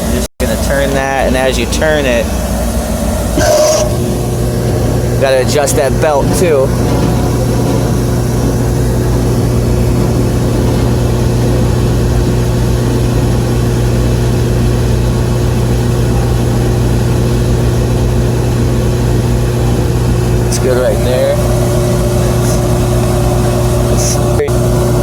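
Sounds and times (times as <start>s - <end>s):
gas heater low hum: 0.0s - 25.0s.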